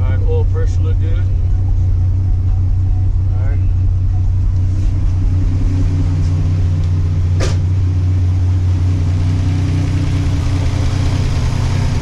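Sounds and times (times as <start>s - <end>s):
turbocharged engine idling: 0.0s - 12.0s.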